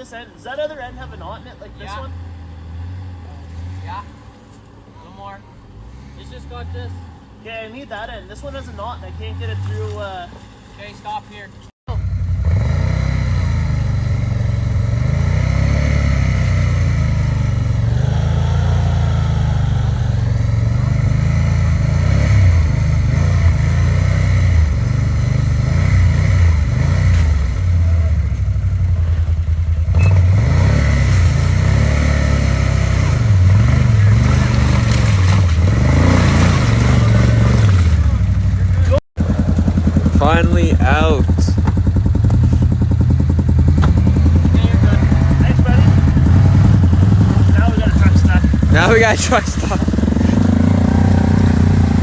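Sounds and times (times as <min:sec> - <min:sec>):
vehicle engine revving under load: 0:00.8 - 0:04.6, 0:05.6 - 0:07.5, 0:11.9 - 0:52.0.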